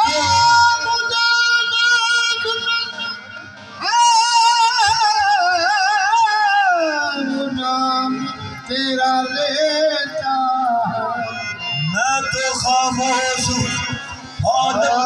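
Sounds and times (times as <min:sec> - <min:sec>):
harmonium: 0:00.0 - 0:15.0
man singing: 0:00.0 - 0:15.0.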